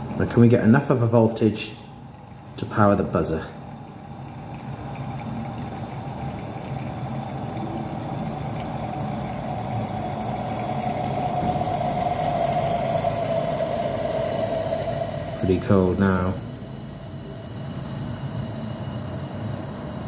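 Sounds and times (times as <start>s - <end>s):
liquid nitrogen boiling rumble: 0.0s - 20.0s.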